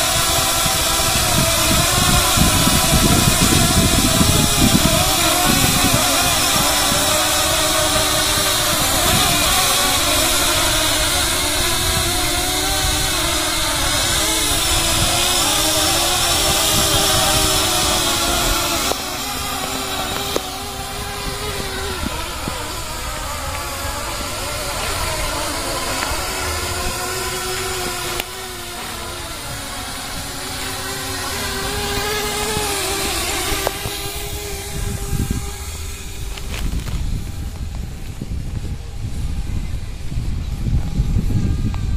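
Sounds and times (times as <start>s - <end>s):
drone motors buzzing whine: 0.0s - 41.9s.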